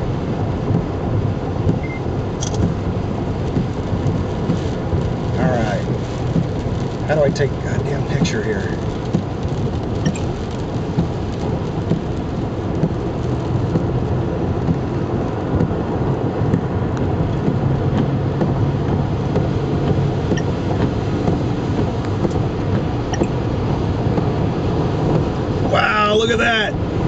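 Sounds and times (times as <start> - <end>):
car road and wind rumble: 0.0 - 27.0.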